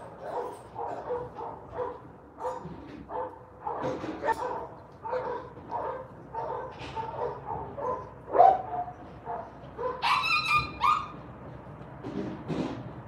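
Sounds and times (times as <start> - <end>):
dogs yipping and barking: 0.0 - 11.3.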